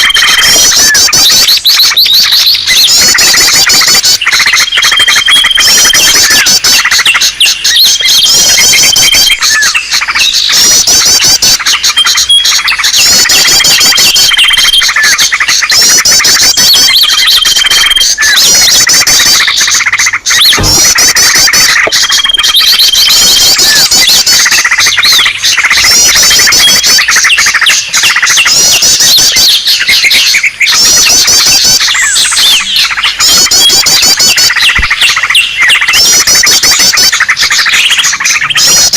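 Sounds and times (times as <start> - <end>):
songbirds chattering chirps: 0.0 - 38.9
thin held bird whistle: 0.0 - 38.9.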